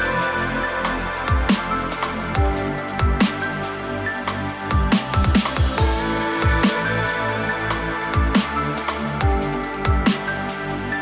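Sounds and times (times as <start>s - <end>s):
electronic music with kick drums: 0.0s - 11.0s.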